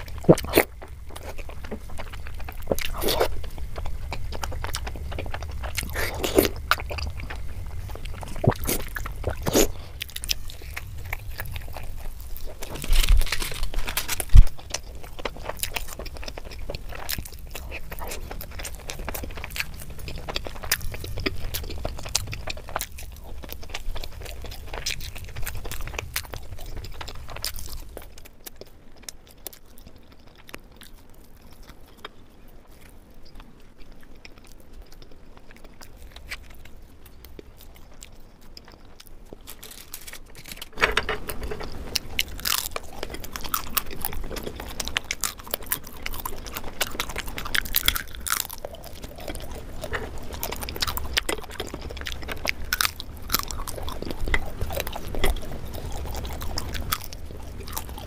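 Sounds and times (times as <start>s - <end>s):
close chewing and biting: 0.0s - 58.0s.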